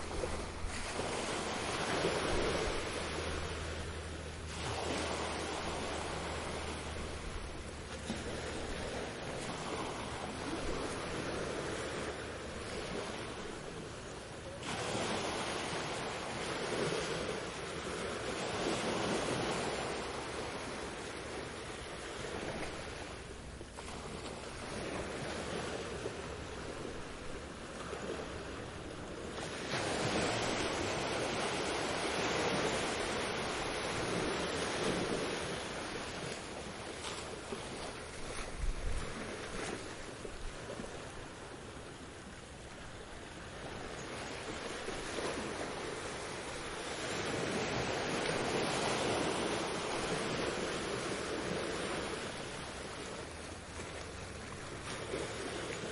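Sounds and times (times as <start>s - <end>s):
sea waves washing onto beach: 0.0s - 55.9s.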